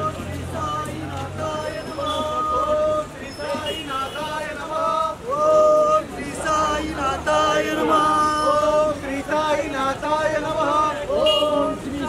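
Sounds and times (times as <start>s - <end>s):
voices chanting devotional song: 0.0s - 12.0s.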